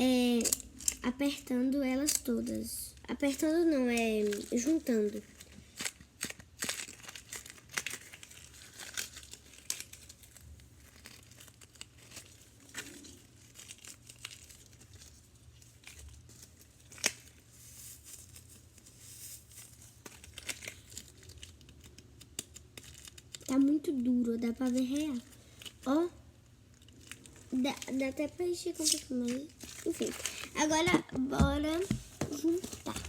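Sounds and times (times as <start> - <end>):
balloon crinkling and rubbing: 3.3 - 23.5, 26.6 - 33.0.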